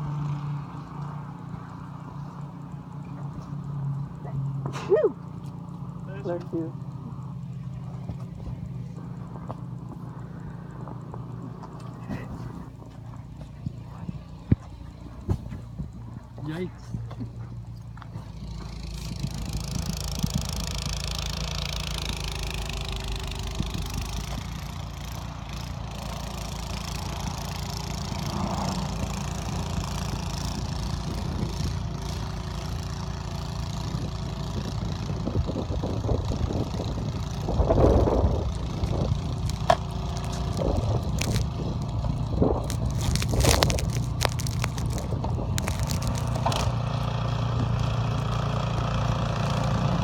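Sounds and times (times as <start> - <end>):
small engine droning: 0.0 - 50.0.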